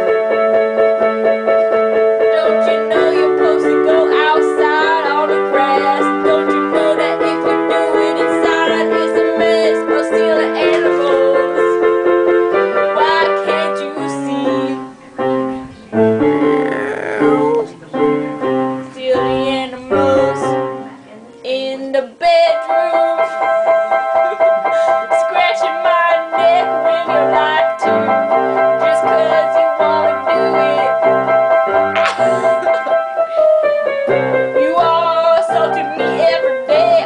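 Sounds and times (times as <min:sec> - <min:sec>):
keyboard music: 0:00.0 - 0:21.0, 0:22.6 - 0:37.0.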